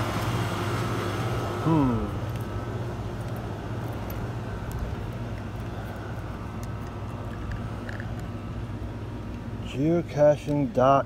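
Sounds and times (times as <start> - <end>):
low mechanical hum: 0.0 - 11.0
outdoor background noise: 0.0 - 11.0.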